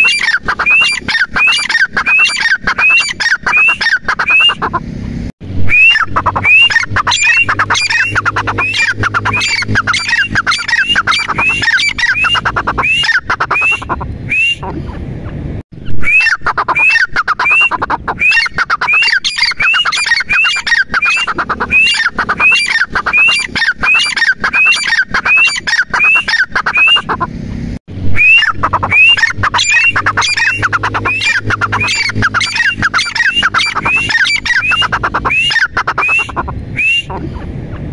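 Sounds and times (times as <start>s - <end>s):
bird calling high rising notes: 0.0s - 4.8s, 5.4s - 14.7s, 15.8s - 27.2s, 27.9s - 37.2s.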